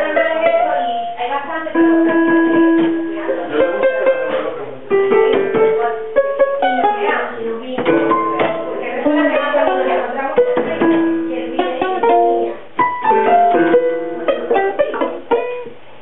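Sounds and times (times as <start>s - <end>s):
keyboard notes: 0.0s - 15.9s
ukulele strumming: 0.0s - 16.0s.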